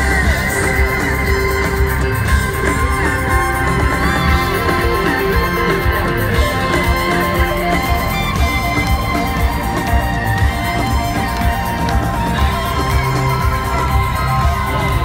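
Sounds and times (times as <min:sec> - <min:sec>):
live rock band instrumental: 0:00.0 - 0:15.0
steady drum beat: 0:00.0 - 0:15.0.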